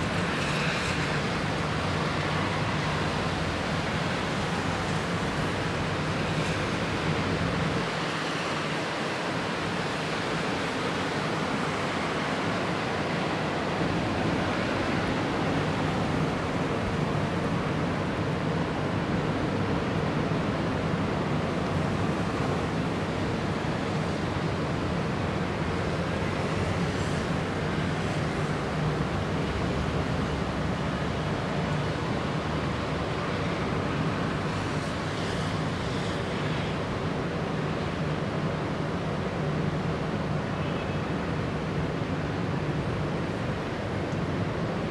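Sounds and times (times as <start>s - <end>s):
rush of wind: 0.0s - 44.9s.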